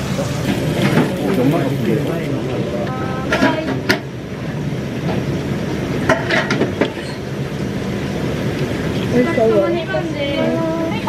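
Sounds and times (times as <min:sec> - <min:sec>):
restaurant rumbling hum: 0:00.0 - 0:11.0.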